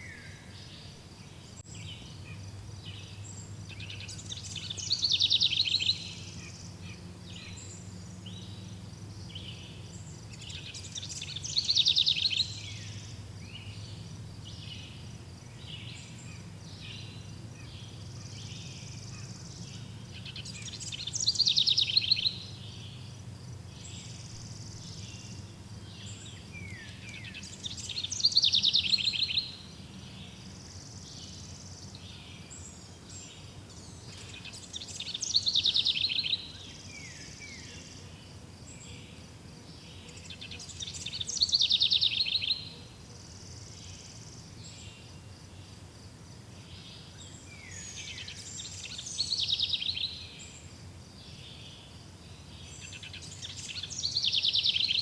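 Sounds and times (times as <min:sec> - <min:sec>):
faint insects: 0:00.0 - 0:55.0
songbird trilling song: 0:00.0 - 0:55.0.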